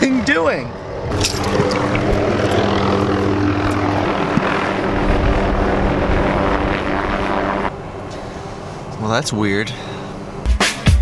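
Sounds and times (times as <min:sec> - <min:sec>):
low-flying helicopter: 0:00.0 - 0:10.4.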